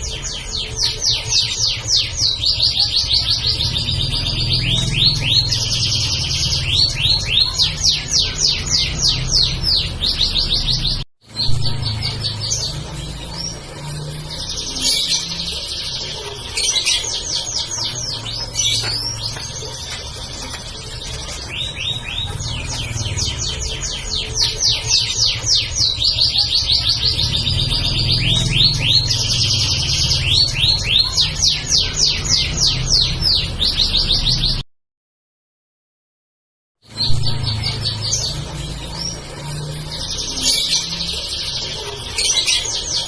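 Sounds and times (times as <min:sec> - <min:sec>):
canary singing trills: 0:00.0 - 0:34.6, 0:36.8 - 0:43.0.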